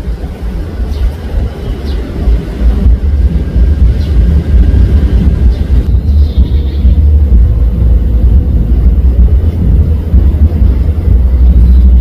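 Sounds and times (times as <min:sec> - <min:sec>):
booming bass of live band music: 0:02.3 - 0:12.0.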